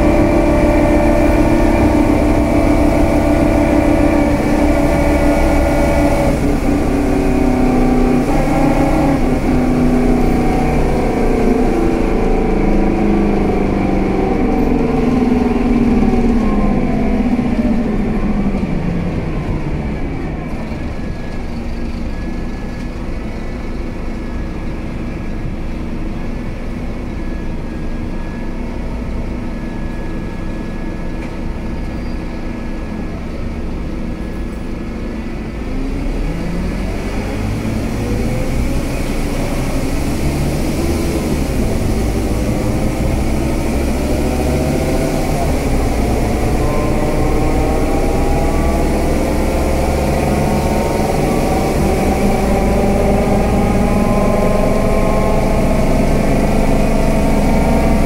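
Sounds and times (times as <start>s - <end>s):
bus diesel engine accelerating: 0.0s - 58.0s.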